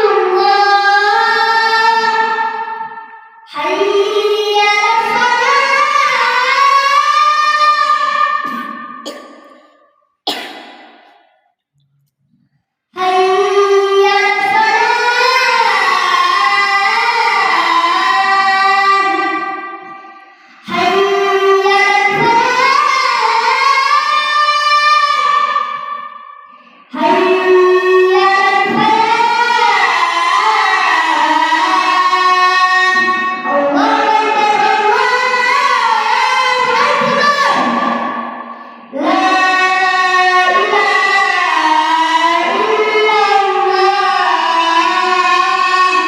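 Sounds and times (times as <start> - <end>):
child chanting call to prayer: 0.0 - 11.4, 12.9 - 46.0.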